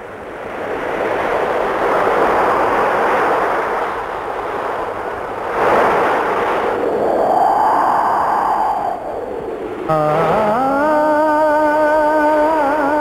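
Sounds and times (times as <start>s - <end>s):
ocean surf breaking: 0.4s - 13.0s.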